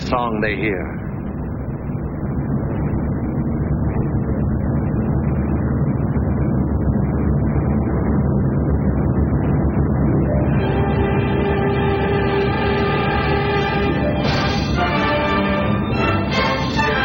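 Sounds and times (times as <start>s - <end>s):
aircraft piston engines droning: 0.0s - 17.0s.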